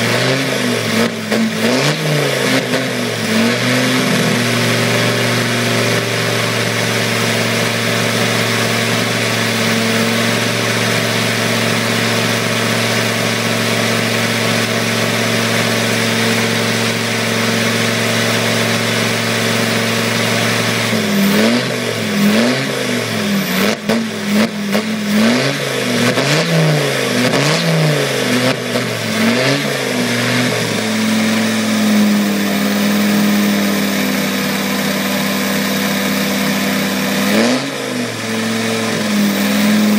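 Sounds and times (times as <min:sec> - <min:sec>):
engine idling and revving: 0:00.0 - 0:39.9.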